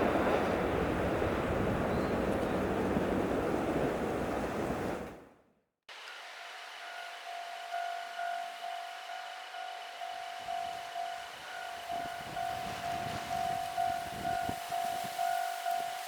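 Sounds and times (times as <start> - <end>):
train passing with rushing rumble: 0.0 - 5.3, 6.3 - 16.0.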